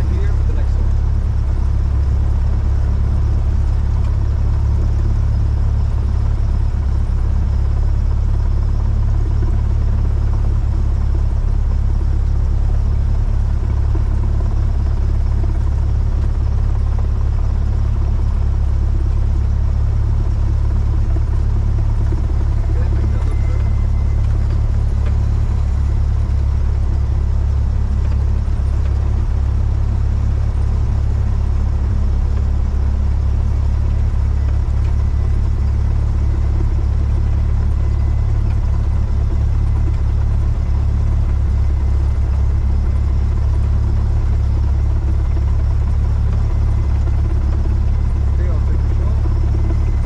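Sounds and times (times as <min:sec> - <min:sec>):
light aircraft engine droning: 0:00.0 - 0:50.0.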